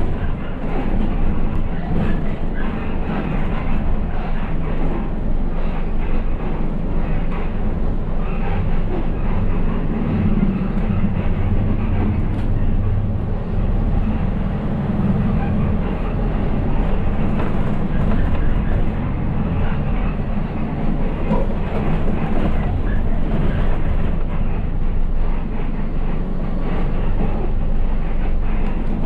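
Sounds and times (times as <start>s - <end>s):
bus body rattling: 0.0s - 29.0s
bus engine droning: 0.0s - 29.0s.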